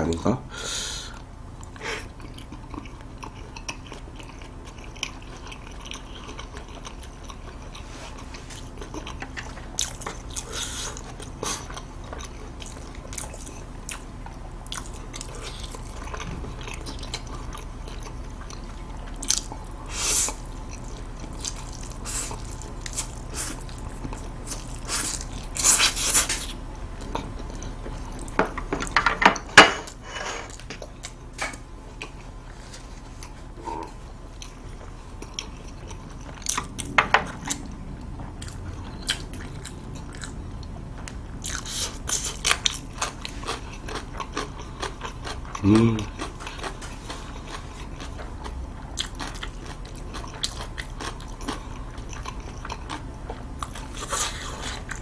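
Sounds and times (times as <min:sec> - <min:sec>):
chewing crunchy noodles: 0:01.6 - 0:29.0, 0:29.8 - 0:55.0.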